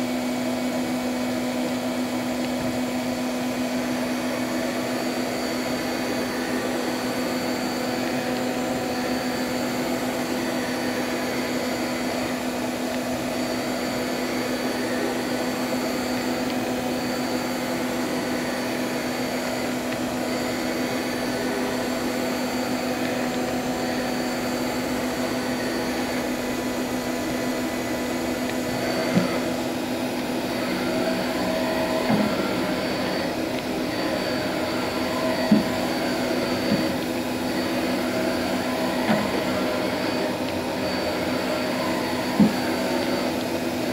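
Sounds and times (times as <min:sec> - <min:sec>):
high machine whine: 0:00.0 - 0:43.9
machining center humming: 0:00.0 - 0:43.9.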